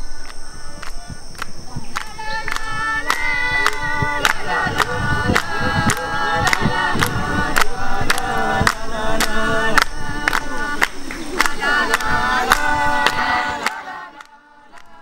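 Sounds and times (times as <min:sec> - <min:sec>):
group singing in chorus: 0:01.8 - 0:15.0.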